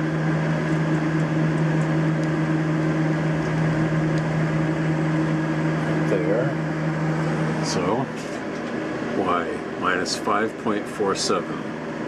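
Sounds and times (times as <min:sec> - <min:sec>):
milling machine hum: 0:00.0 - 0:12.0.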